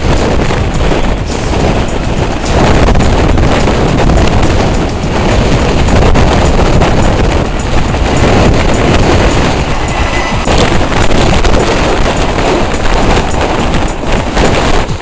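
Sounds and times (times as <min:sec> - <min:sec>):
gale wind buffeting microphone: 0:00.0 - 0:15.0.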